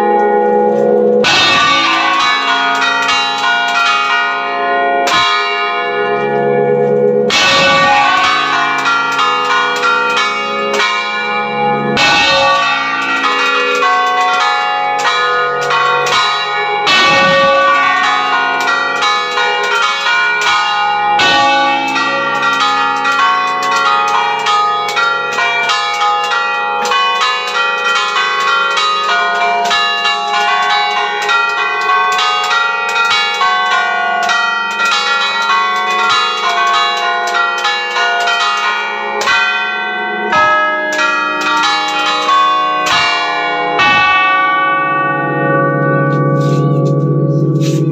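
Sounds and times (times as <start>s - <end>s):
church bells pealing: 0.0s - 47.9s
deep heavy bell strokes: 0.0s - 47.9s.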